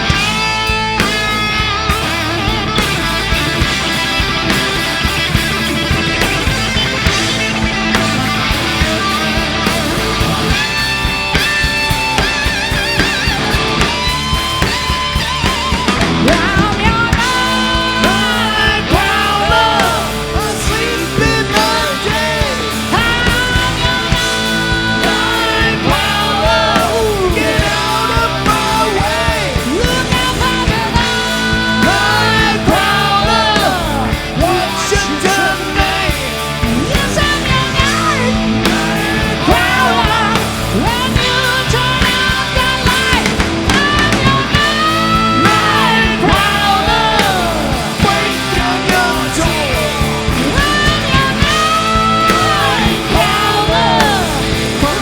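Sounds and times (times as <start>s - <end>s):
bass guitar: 0.0s - 55.0s
drums: 0.0s - 55.0s
electric lead guitar with string bends: 0.0s - 55.0s.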